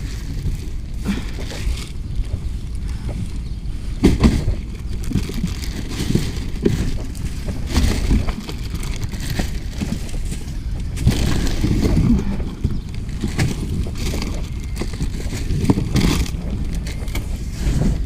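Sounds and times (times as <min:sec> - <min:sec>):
items rustling and knocking: 0:00.0 - 0:18.0
wind rumbling on microphone: 0:00.0 - 0:18.0.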